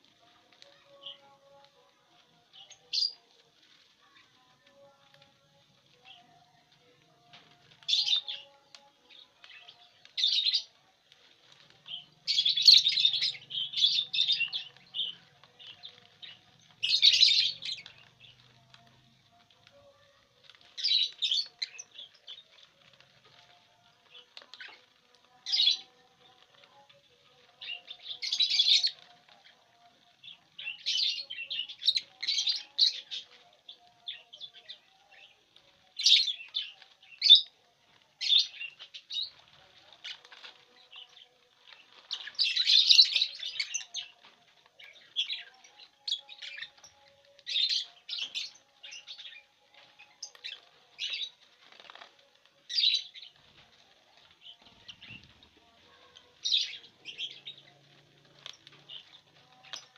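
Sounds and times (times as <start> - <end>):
lovebirds chirping: 0.0 - 59.9.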